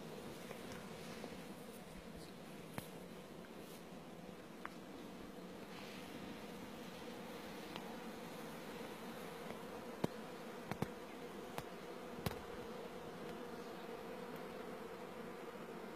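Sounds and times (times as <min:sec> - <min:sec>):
insects buzzing: 0:00.0 - 0:15.9.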